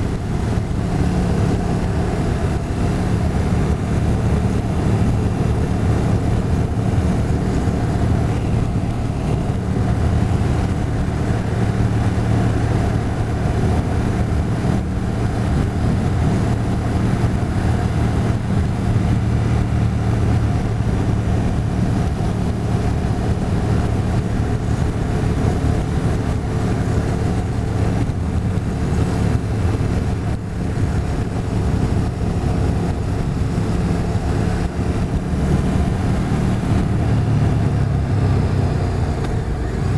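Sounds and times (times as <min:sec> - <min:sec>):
motorcycle engine humming: 0:00.0 - 0:39.9
wind over microphone: 0:00.0 - 0:39.9.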